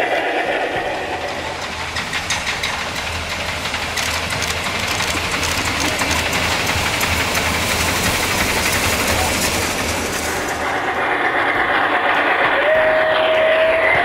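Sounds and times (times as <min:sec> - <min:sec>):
steam locomotive exhaust: 0:00.0 - 0:14.0
train wheels clattering on rails: 0:00.0 - 0:14.0.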